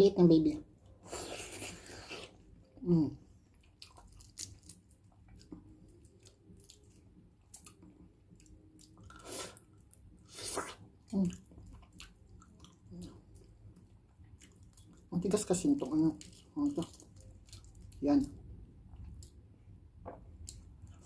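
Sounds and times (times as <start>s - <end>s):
soft wet chewing: 0.8s - 19.6s, 20.3s - 21.0s.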